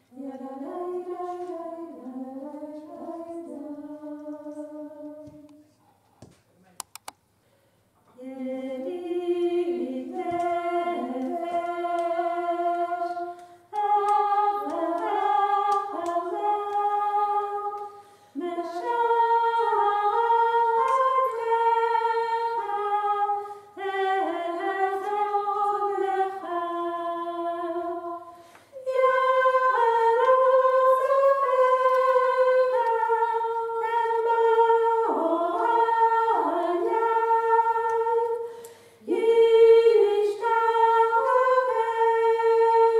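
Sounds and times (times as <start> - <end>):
woman singing unaccompanied: 0.1 - 5.6, 8.2 - 38.4.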